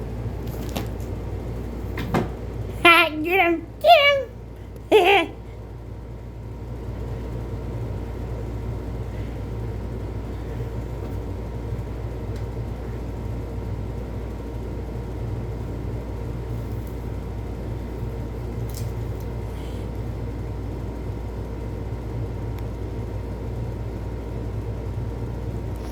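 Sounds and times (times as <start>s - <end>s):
faint constant whine: 0.0s - 25.9s.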